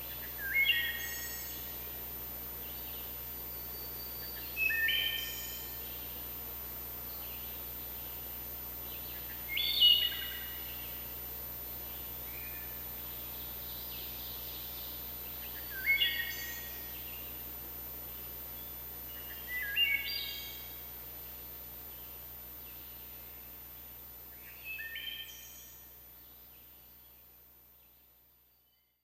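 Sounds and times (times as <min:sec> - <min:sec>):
faint forest background noise: 0:00.0 - 0:29.0.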